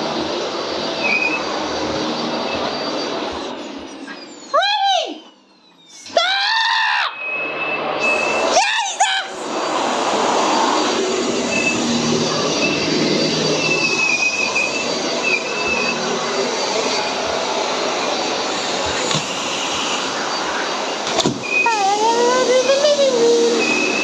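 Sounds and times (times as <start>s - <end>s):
vacuum cleaner running: 0.0s - 4.2s, 7.4s - 24.0s.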